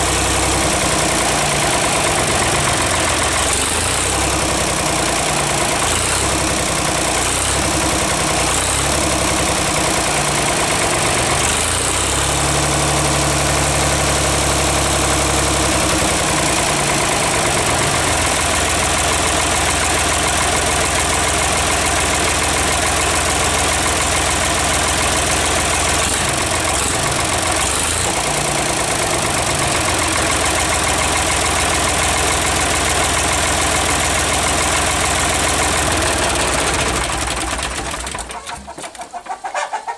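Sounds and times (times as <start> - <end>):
diesel engine idling: 0.0 - 38.8.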